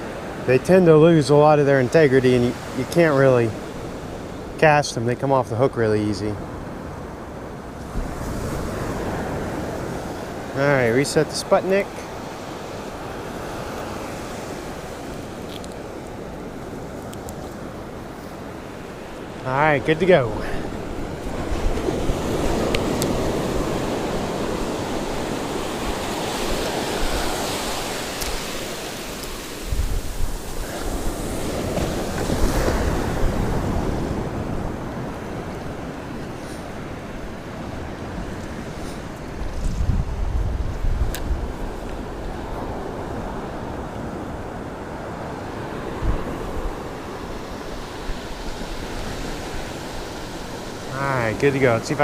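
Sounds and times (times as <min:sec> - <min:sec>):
ocean surf washing on beach: 0:00.0 - 0:52.0
wind buffeting microphone: 0:06.4 - 0:52.0.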